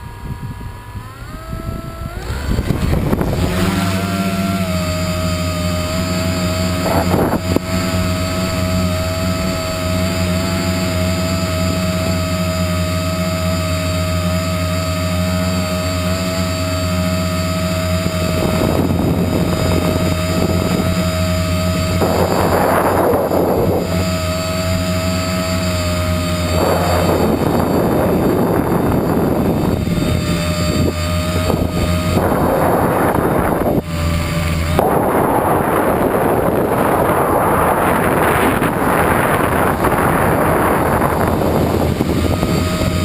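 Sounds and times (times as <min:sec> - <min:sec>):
drone motors and propellers whining: 0:00.0 - 0:43.0
wind noise on microphone: 0:00.0 - 0:43.0.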